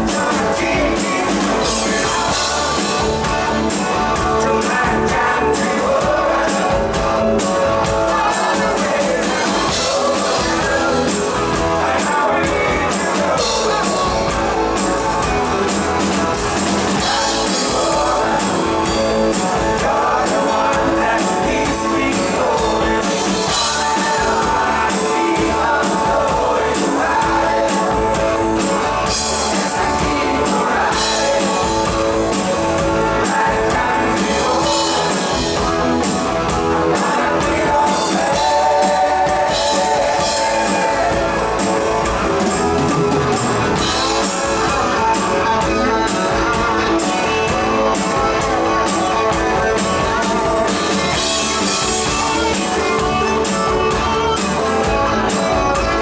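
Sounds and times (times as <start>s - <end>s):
drum kit: 0.0s - 56.0s
electric guitars: 0.0s - 56.0s
person singing: 0.0s - 56.0s.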